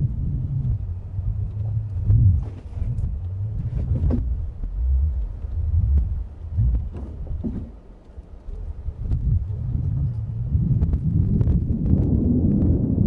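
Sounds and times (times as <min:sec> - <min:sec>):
pickup engine and tyres rumbling: 0:00.0 - 0:12.0.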